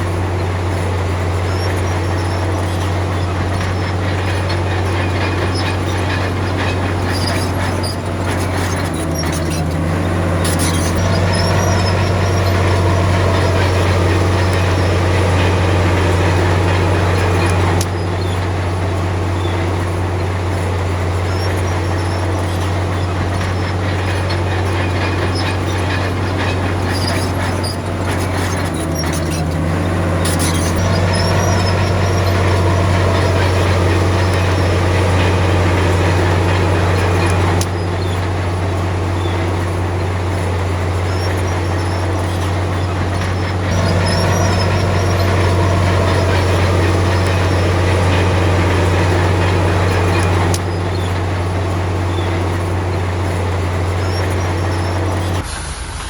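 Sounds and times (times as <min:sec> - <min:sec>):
bulldozer diesel engine running: 0:00.0 - 0:56.0
steel tracks clanking and squeaking: 0:00.0 - 0:56.0.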